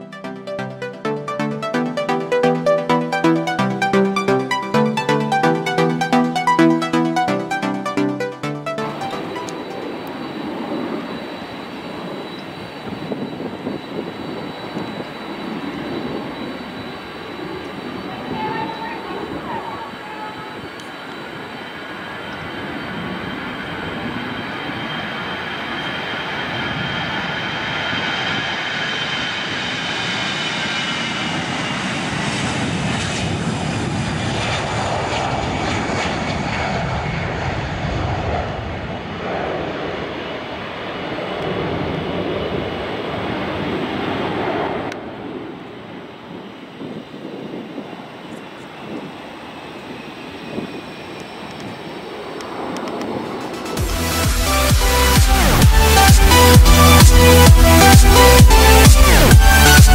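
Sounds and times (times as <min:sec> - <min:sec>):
jet engines at takeoff: 0:00.0 - 0:59.9.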